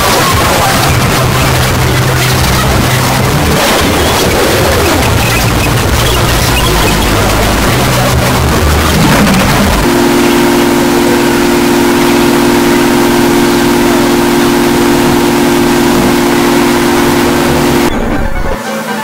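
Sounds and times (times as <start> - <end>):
droning held tones: 0.0 - 18.6
harsh static noise: 0.0 - 19.0.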